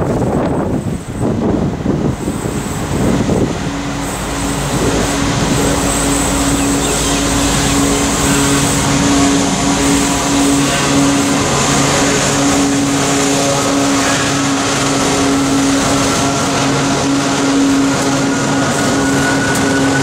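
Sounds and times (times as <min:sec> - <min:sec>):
diesel locomotive engines droning: 0:00.0 - 0:20.0
wind buffeting microphone: 0:00.0 - 0:20.0.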